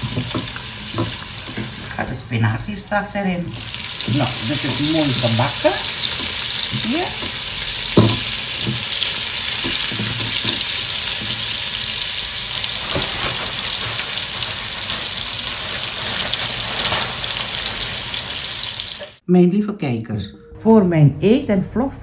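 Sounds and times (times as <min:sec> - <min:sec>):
sausage and onions sizzling: 0:00.0 - 0:19.2.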